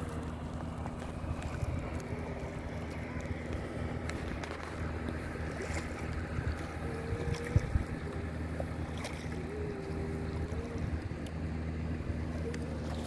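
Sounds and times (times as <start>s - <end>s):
wind buffeting microphone: 0.0s - 12.3s
water lapping around boat: 0.0s - 13.0s.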